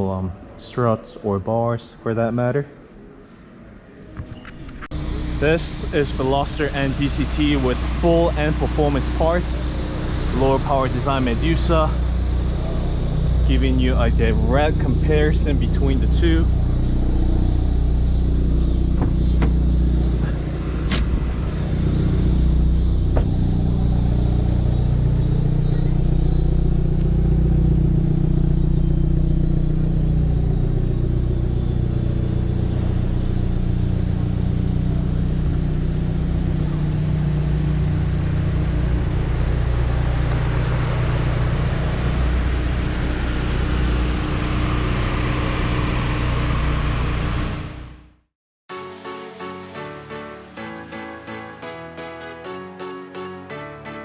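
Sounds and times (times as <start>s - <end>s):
car engine running through exhaust: 4.9s - 48.3s.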